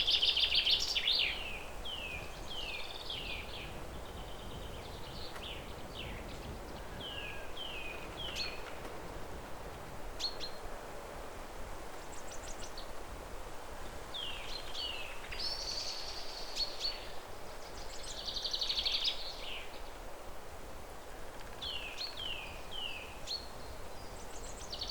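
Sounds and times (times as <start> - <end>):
outdoor background noise: 0.0 - 24.9.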